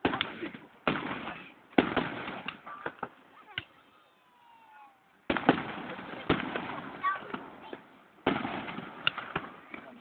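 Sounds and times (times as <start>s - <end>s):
fireworks bangs: 0.0s - 3.9s, 4.5s - 10.0s
fireworks sharp cracks: 0.0s - 3.9s, 5.2s - 10.0s.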